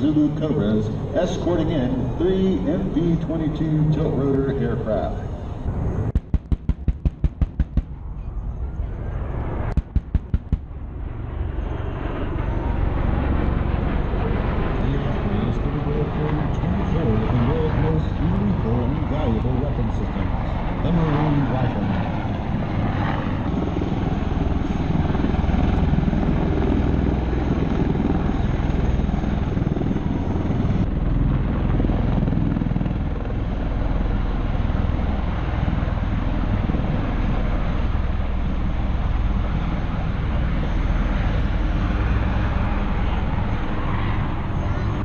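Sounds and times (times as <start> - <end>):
helicopter rotor drone: 0.0 - 45.0.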